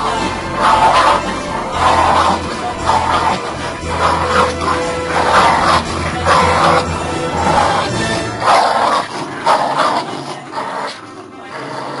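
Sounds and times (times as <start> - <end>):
background music: 0.0 - 12.0
small dogs barking: 0.0 - 12.0.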